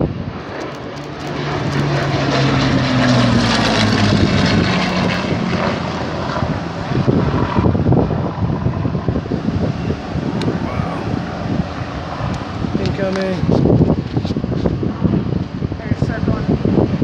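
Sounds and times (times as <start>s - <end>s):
propeller plane engine flyby: 0.0s - 17.0s.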